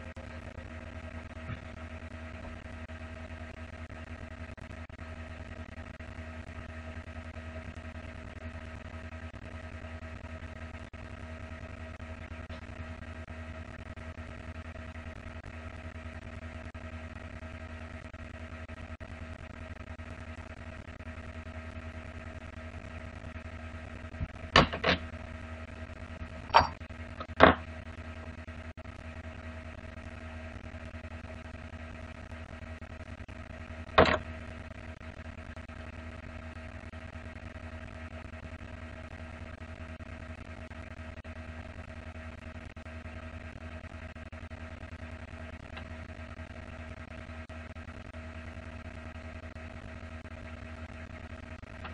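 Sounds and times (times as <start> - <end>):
steady hum of held tones: 0.0 - 51.9.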